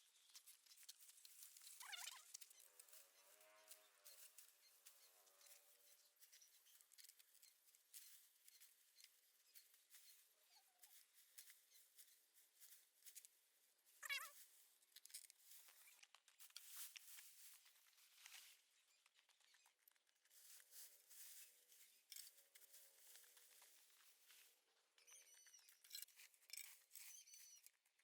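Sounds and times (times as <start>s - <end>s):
faint ticks and rustles: 0.0s - 28.0s.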